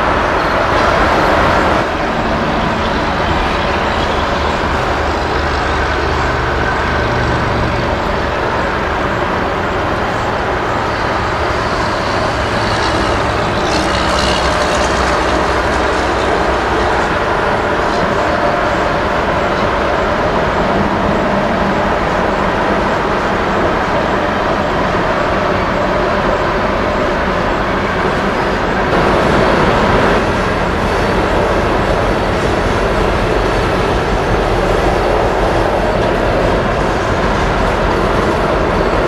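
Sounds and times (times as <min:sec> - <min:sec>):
diesel locomotive engine: 0:00.0 - 0:39.0.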